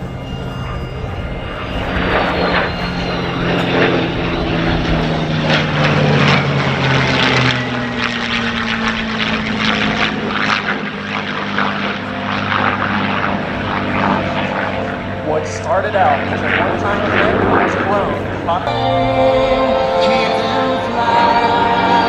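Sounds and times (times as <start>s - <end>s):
propeller plane engine flying past: 0.0s - 22.0s.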